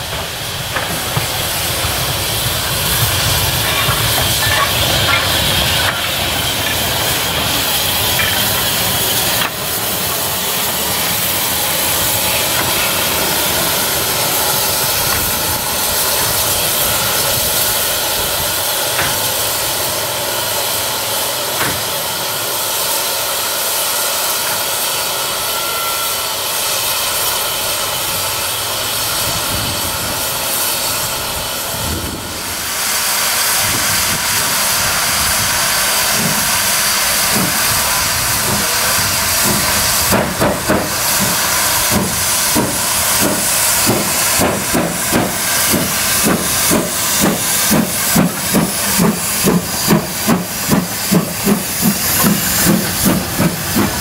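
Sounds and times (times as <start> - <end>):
steam hissing from locomotive: 0.0 - 54.0.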